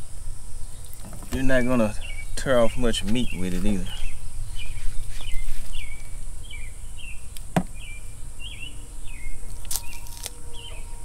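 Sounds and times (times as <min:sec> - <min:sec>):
bird chirping: 0:00.5 - 0:11.0.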